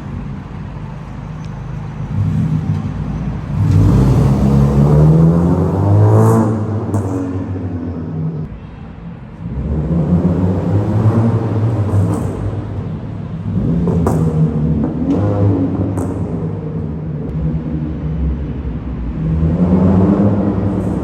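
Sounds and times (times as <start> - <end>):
car engine revving: 1.7 - 8.6, 9.4 - 21.0.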